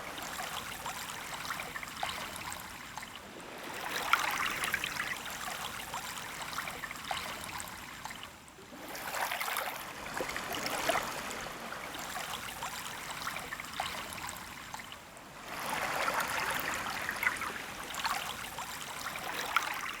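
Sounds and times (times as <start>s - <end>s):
gentle waves washing onto sand: 0.0s - 20.0s.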